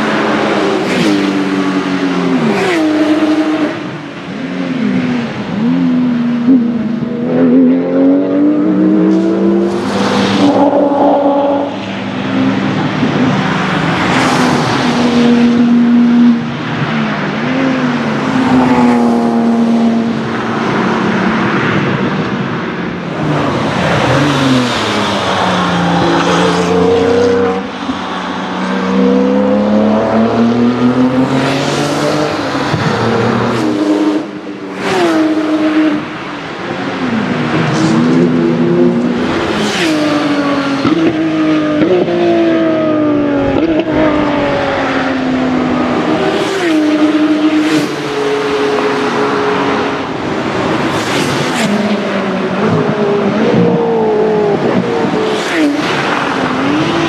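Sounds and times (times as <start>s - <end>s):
sports car engines passing: 0.0s - 57.0s.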